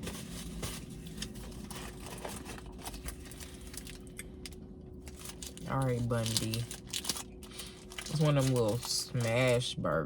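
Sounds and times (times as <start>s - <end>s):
food wrapping clicks and crackles: 0.0s - 9.8s
faint steady hum: 0.0s - 10.0s.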